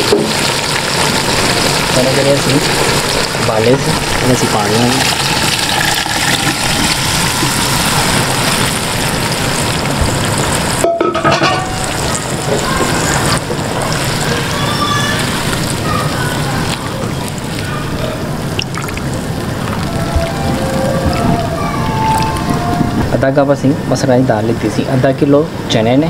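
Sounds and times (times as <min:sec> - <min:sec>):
curry boiling and bubbling: 0:00.0 - 0:26.0.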